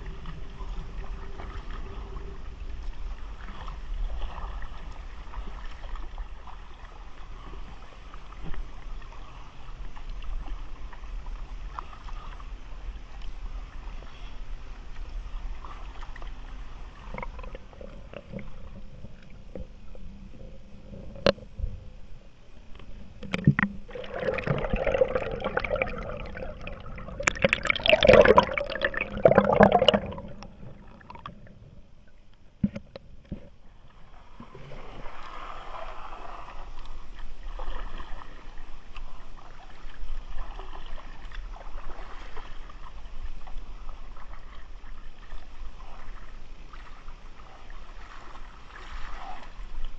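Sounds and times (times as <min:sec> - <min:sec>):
kayak paddle splashing: 0:00.0 - 0:31.6, 0:33.4 - 0:49.9
water sloshing and gurgling: 0:00.0 - 0:49.9.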